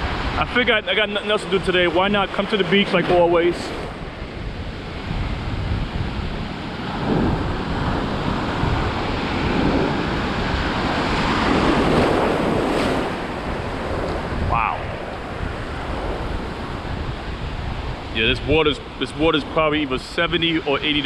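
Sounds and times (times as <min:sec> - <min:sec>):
ocean waves breaking: 0:00.0 - 0:21.0
wind buffeting microphone: 0:00.0 - 0:21.0.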